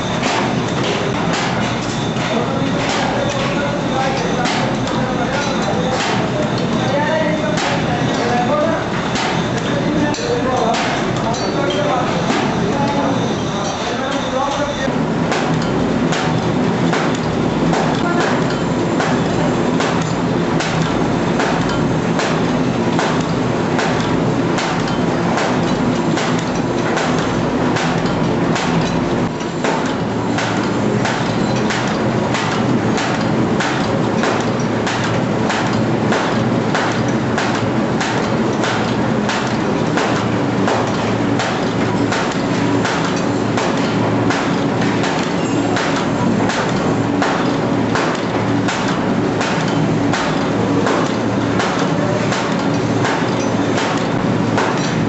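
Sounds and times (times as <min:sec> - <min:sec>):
machine clacking: 0:00.0 - 0:55.0
machine mechanical hum: 0:00.0 - 0:55.0.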